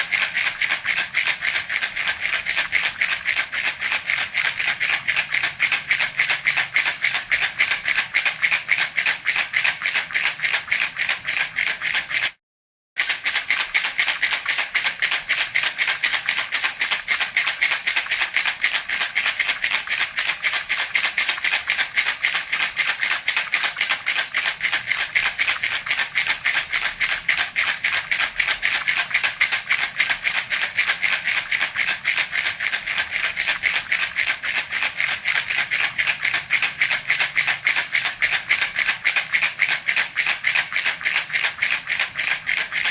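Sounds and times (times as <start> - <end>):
baby rattle shaken: 0.0 - 12.4, 13.0 - 42.9.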